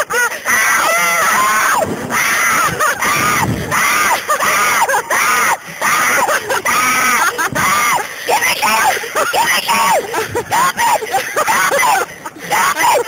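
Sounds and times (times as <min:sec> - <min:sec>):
woman screaming in terror: 0:00.0 - 0:13.0.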